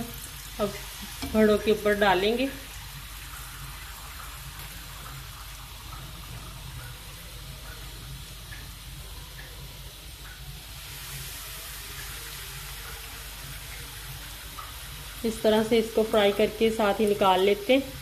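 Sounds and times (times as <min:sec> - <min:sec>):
deep-frying sizzle in oil: 0:00.0 - 0:18.0.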